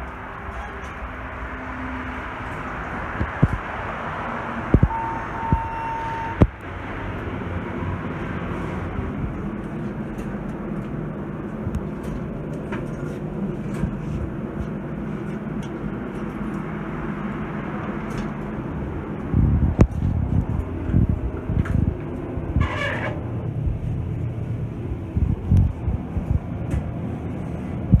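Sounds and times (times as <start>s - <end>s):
elevator hum: 0.0s - 28.0s.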